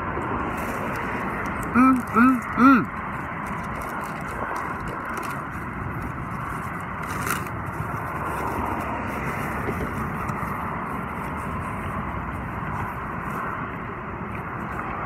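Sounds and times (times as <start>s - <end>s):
street traffic: 0.0s - 15.0s
wind on microphone: 2.4s - 15.0s.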